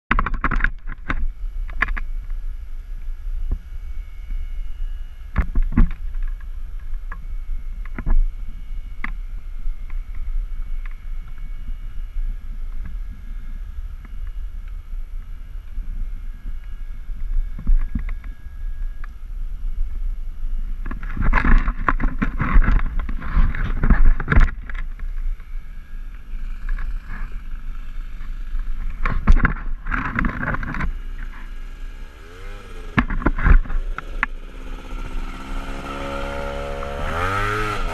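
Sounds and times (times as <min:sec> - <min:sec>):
quad engine approaching: 0:00.1 - 0:37.9.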